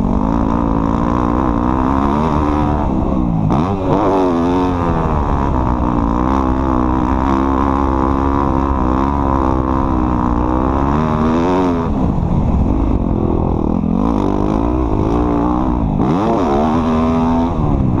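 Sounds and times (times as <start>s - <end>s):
off-road vehicle engine under load: 0.0s - 18.0s.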